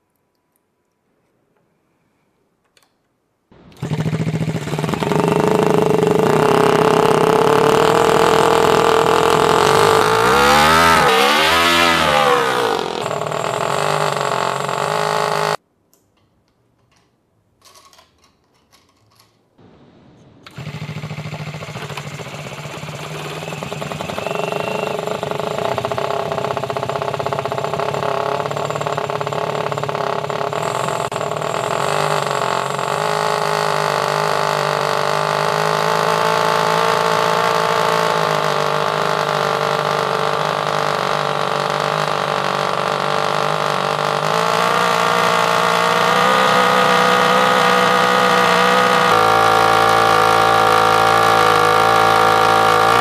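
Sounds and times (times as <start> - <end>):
rising whine: 3.6 - 15.6, 19.6 - 53.0
small model car engine running: 3.7 - 15.6, 20.5 - 53.0.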